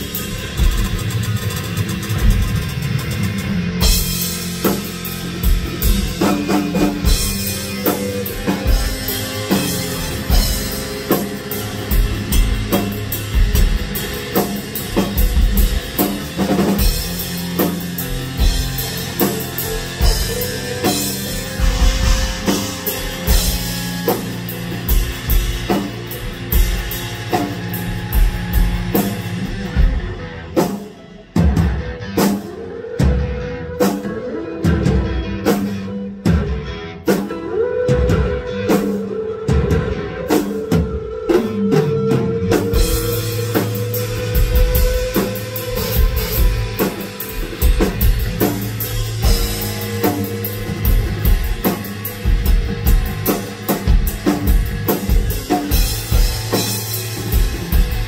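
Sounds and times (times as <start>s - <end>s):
drum kit with cymbals: 0.0s - 58.0s.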